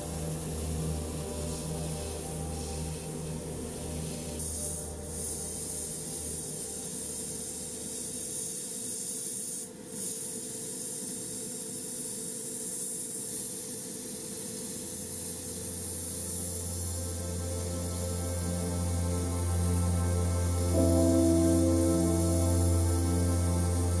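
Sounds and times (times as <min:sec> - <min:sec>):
airbrush spraying hiss: 0:00.0 - 0:24.0.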